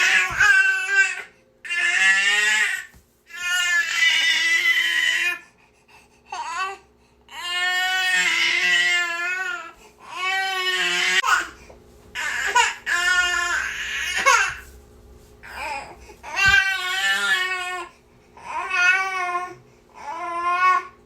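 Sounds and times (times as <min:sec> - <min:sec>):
infant crying: 0:00.0 - 0:05.4, 0:06.3 - 0:11.6, 0:12.2 - 0:14.6, 0:15.4 - 0:21.0.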